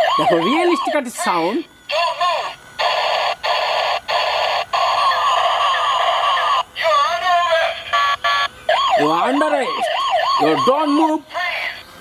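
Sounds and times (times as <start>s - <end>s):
toy siren wail: 0.0s - 11.8s.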